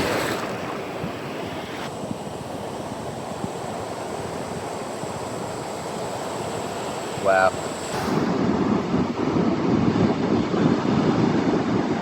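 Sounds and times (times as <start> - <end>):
ocean surf breaking: 0.0 - 10.0
wind on microphone: 0.0 - 12.0.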